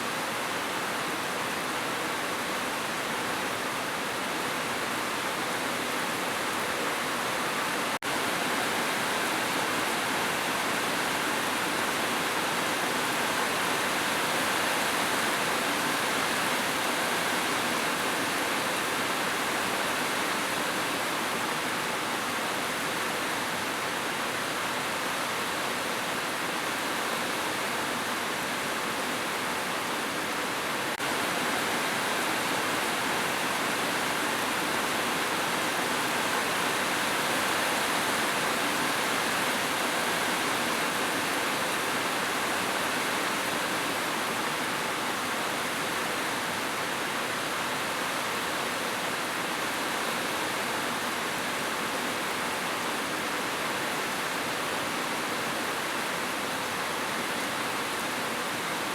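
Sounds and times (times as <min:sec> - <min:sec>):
rushing water: 0:00.0 - 0:58.9.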